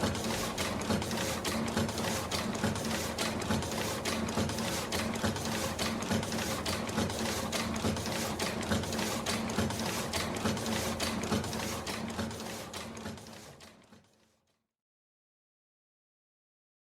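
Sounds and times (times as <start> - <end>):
printer clattering: 0.0 - 13.7.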